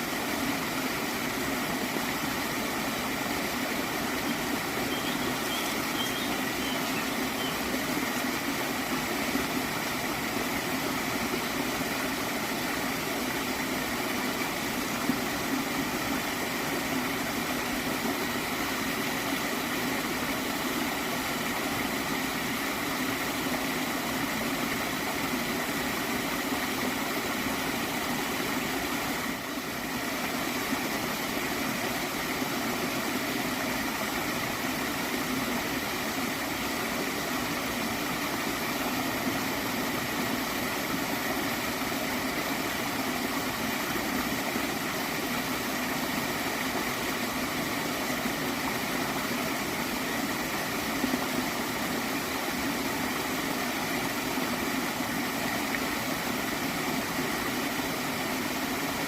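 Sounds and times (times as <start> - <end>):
stream gurgling: 0.0 - 59.0.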